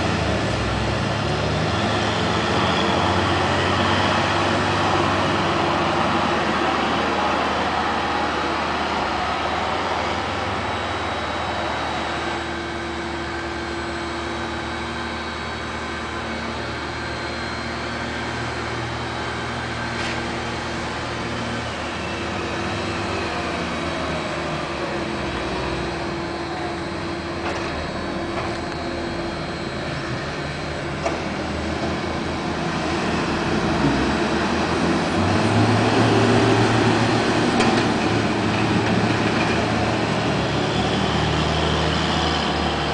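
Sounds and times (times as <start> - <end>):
tractor diesel engines running: 0.0 - 42.9.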